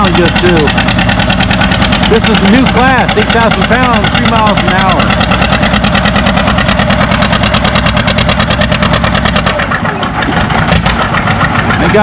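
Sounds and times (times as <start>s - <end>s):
tractor engine exhaust beats: 0.0s - 12.0s.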